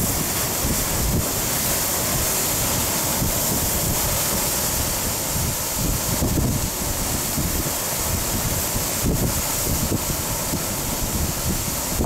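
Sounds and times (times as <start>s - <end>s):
heavy surf crashing on rocks: 0.0s - 12.0s
wind buffeting microphone: 0.0s - 12.0s.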